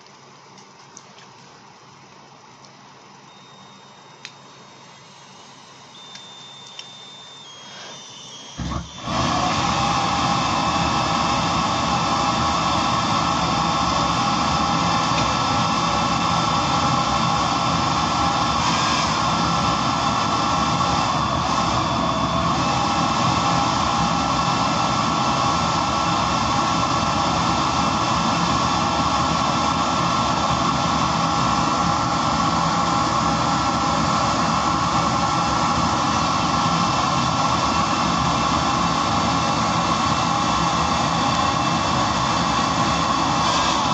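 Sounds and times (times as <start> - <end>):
jet engine roaring and whining: 4.8 - 43.9.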